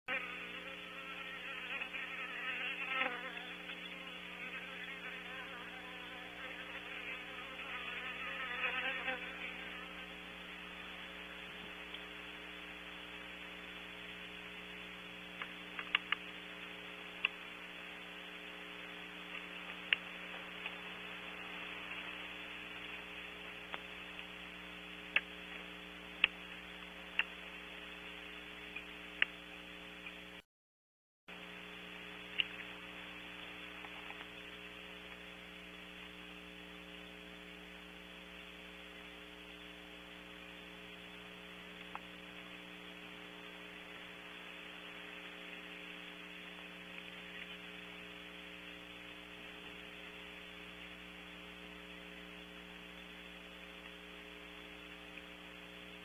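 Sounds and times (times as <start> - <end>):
electrical hum: 0.1 - 30.4, 31.3 - 56.0.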